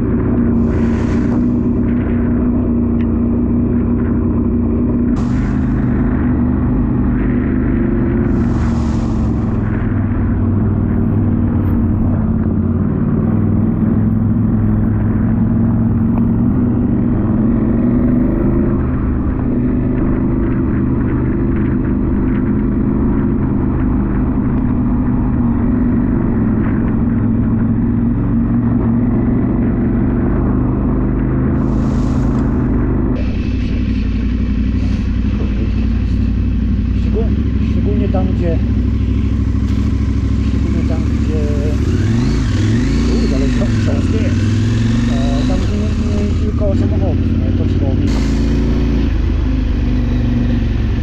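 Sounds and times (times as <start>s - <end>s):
motorcycle engine running: 0.0s - 51.0s
road and wind noise: 0.0s - 51.0s.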